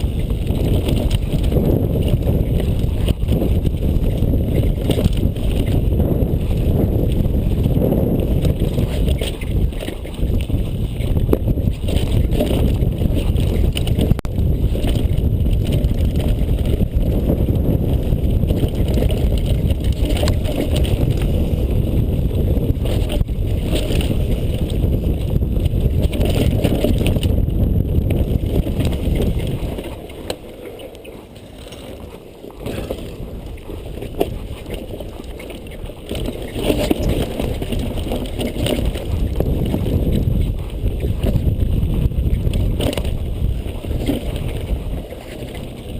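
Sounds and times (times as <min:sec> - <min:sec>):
bike rattling and knocking: 0:00.0 - 0:45.9
tyres rumbling on dirt: 0:00.0 - 0:45.9
wind on microphone: 0:00.0 - 0:45.9.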